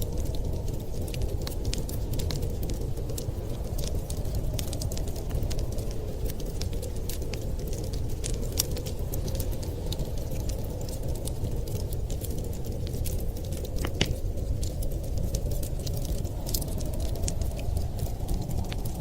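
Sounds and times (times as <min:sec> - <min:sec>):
low rumble of wind: 0:00.0 - 0:19.0
wood fire crackling: 0:00.0 - 0:19.0.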